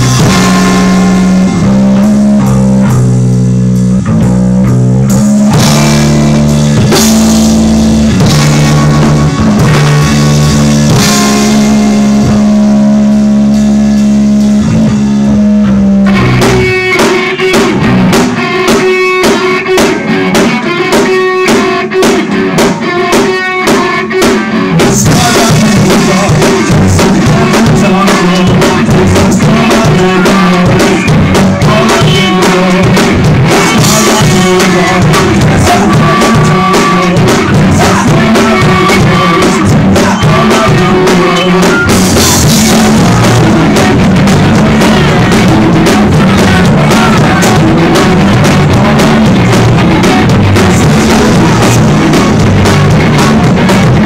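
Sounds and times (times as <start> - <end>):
drum kit: 0.0 - 54.0
electric guitar: 0.0 - 54.0.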